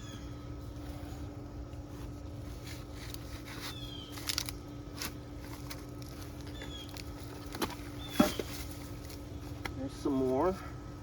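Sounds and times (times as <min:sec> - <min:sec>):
soil and vines scraping: 0:00.7 - 0:10.5.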